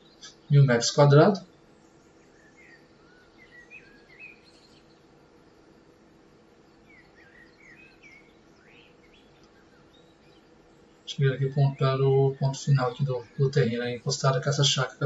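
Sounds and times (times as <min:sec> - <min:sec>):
faint bird chirps: 0:00.0 - 0:15.0
faint low hum: 0:00.0 - 0:15.0.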